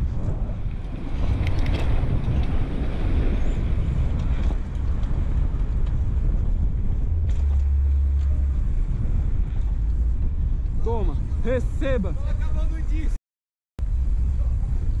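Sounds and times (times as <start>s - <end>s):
low steady rumble: 0.0s - 13.2s, 13.8s - 15.0s
wind buffeting microphone: 0.0s - 13.2s, 13.8s - 15.0s.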